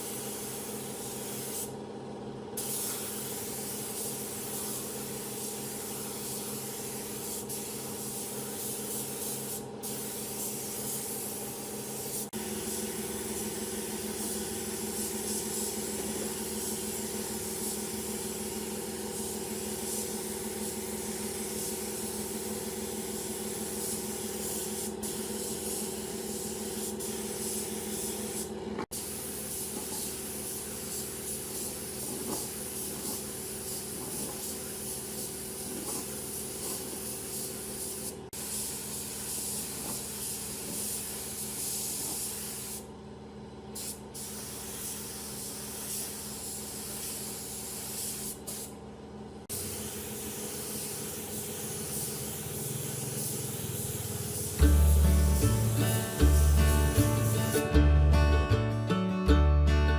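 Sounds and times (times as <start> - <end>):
spray gun hissing: 0.0 - 1.7, 2.6 - 42.8, 43.8 - 48.7, 49.5 - 57.6.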